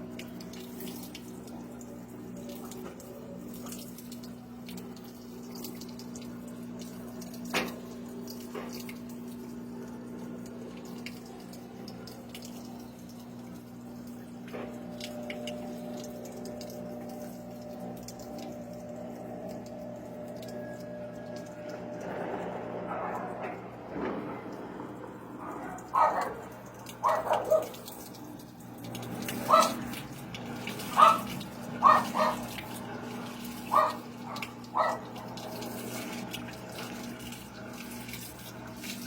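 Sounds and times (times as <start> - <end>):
washing machine low hum: 0.0 - 39.0
water splashing in washing machine: 0.0 - 39.0.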